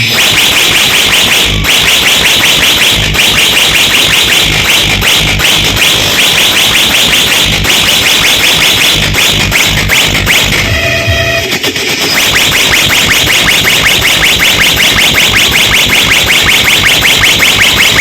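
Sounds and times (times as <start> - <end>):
heavy bass thumps: 0.0 - 11.5, 12.1 - 18.0
buzzing electronic synth: 0.0 - 18.0.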